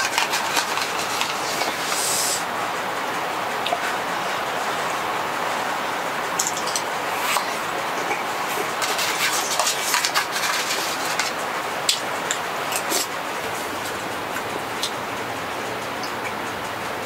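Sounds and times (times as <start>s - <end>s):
rain on tent fabric: 0.0s - 17.0s.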